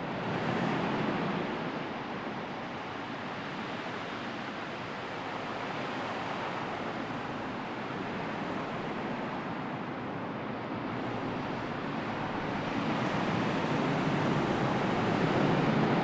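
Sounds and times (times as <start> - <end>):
sea surf waves: 0.0 - 16.0.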